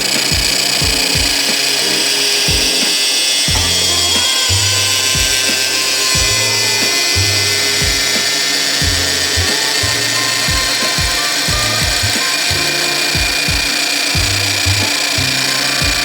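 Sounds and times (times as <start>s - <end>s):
background music with beat: 0.0s - 16.0s
metalworking machine hissing: 0.0s - 16.0s.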